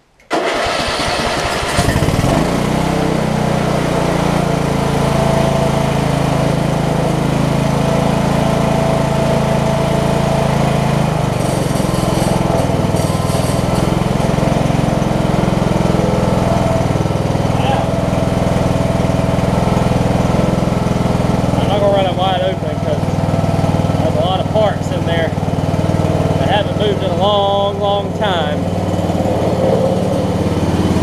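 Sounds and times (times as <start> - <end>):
mower engine cranking and running: 0.2 - 31.0.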